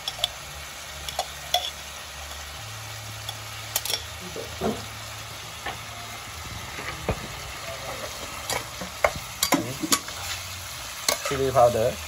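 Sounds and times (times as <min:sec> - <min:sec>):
tofu sizzling in a wok: 0:00.0 - 0:12.0.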